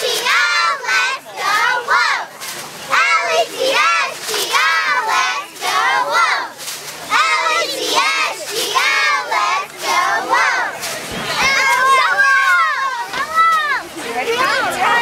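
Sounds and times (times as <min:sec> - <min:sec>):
cheerleaders chanting a cheer: 0:00.0 - 0:15.0.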